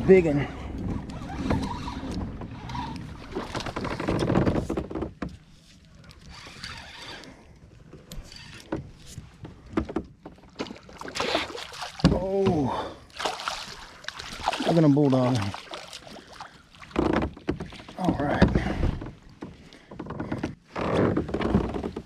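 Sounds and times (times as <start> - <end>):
water movement: 0.0 - 20.6.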